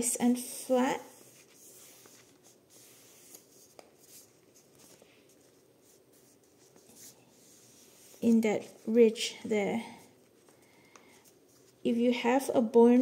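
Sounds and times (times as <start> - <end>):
paper rustling and rubbing: 0.5 - 9.4, 10.2 - 11.9.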